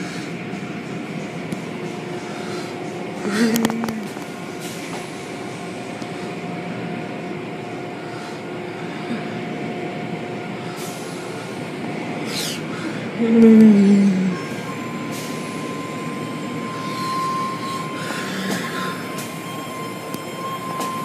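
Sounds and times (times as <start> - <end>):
constant hum: 0.0 - 21.0.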